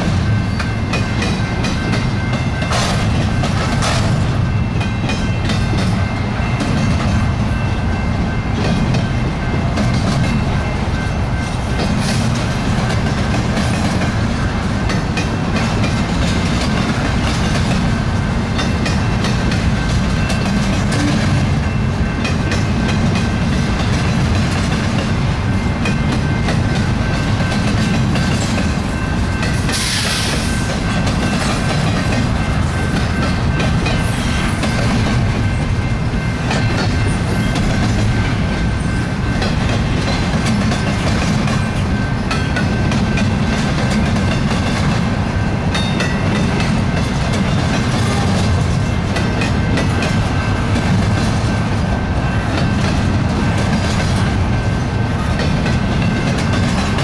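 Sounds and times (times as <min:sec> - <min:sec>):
clickety-clack over rail joints: 0:00.0 - 0:57.0
steel wheels rumbling on rail: 0:00.0 - 0:57.0.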